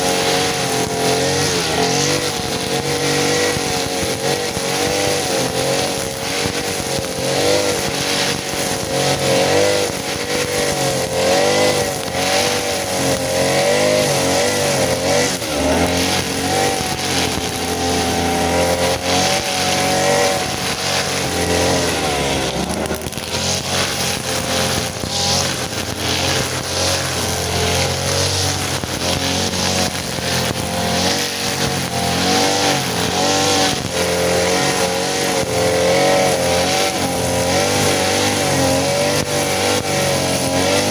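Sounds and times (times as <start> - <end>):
cutting hiss and ticking: 0.0 - 40.9
grass cutter engine running: 0.0 - 40.9.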